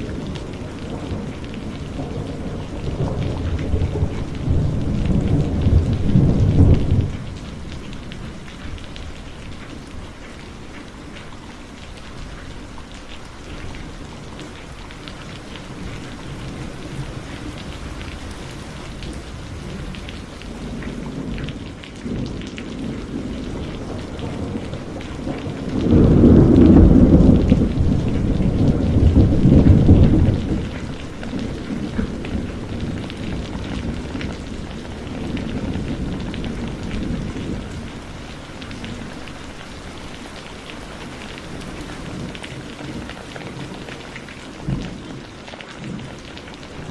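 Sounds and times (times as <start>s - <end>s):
thunder rumbling: 0.0s - 11.2s, 12.0s - 46.9s
heavy rain pouring: 0.0s - 46.9s.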